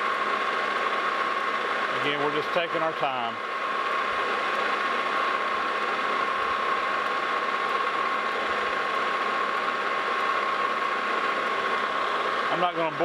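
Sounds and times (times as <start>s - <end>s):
metal lathe whining: 0.0s - 13.0s.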